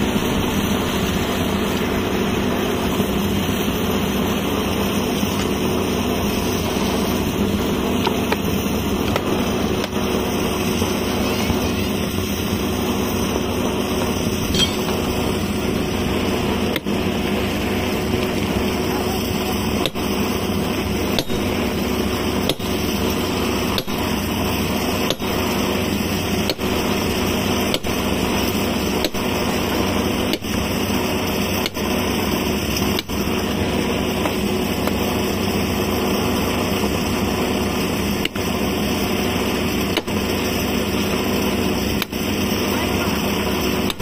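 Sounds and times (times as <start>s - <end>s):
machine droning with hum: 0.0s - 44.0s.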